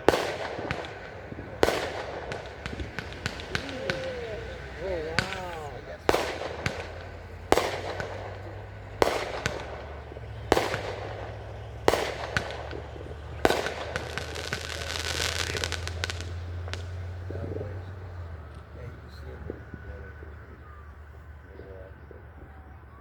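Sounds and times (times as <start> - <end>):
fireworks crackling: 0.0 - 22.4
fireworks bangs: 0.0 - 22.6.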